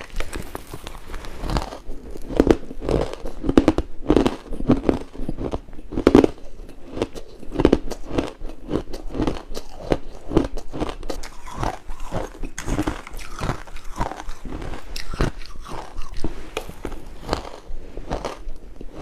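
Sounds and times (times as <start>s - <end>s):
chewing ice cubes: 0.0s - 19.0s.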